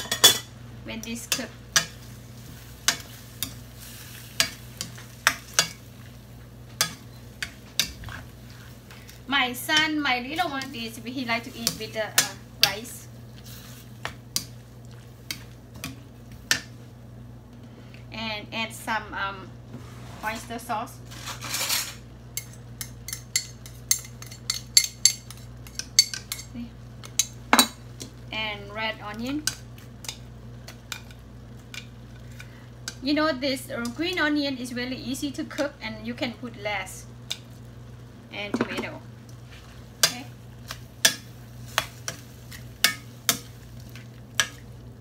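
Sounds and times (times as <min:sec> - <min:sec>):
food sizzling in a frying pan: 0:00.0 - 0:17.4, 0:21.0 - 0:45.0
steady low hum: 0:00.0 - 0:45.0.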